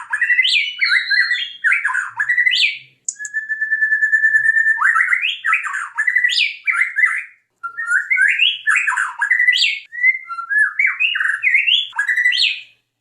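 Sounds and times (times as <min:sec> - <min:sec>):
bird singing whistled phrases: 0:00.0 - 0:12.8.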